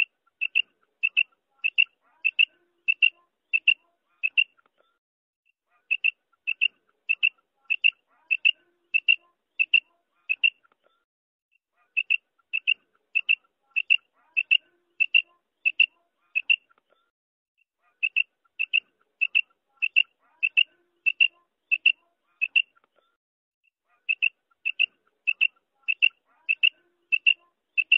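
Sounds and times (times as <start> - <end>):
quail calling: 0.0 - 4.6, 5.7 - 10.7, 11.8 - 16.8, 17.9 - 22.8, 23.9 - 27.9.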